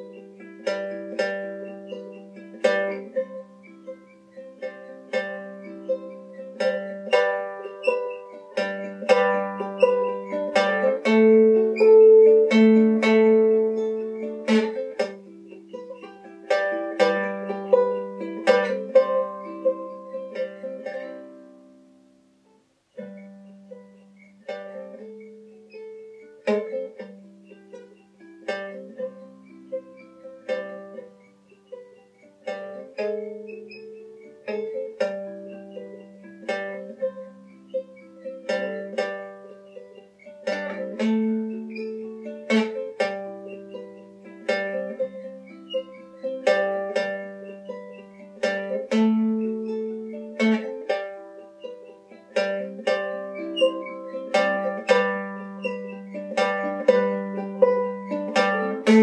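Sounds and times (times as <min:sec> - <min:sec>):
ukulele fingerpicking: 0:00.0 - 0:59.0.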